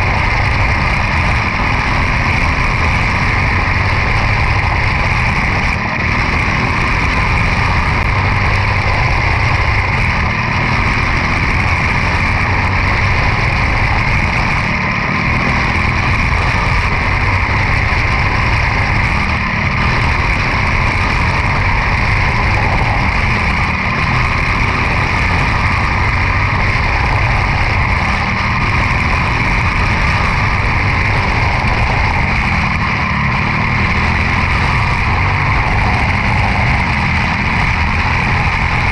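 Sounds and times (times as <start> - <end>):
race car engine running: 0.0 - 38.9.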